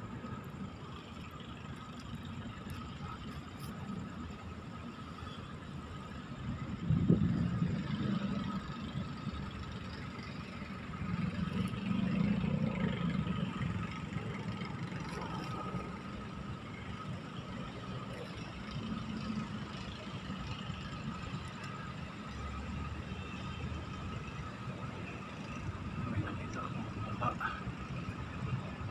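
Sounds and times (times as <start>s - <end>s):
cars passing: 0.0s - 28.9s
engine and tyre rumble: 0.0s - 28.9s.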